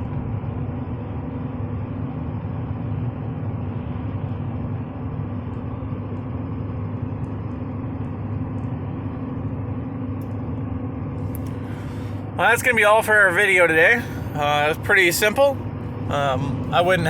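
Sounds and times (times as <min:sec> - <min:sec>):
diesel engine drone: 0:00.0 - 0:17.0
road noise: 0:00.0 - 0:17.0.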